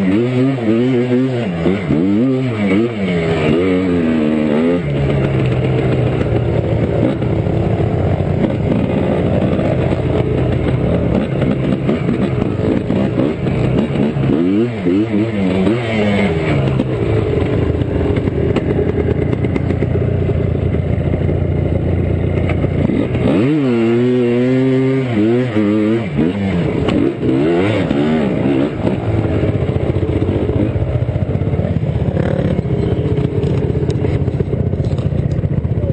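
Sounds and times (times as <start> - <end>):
atv engine revving: 0.0 - 35.9.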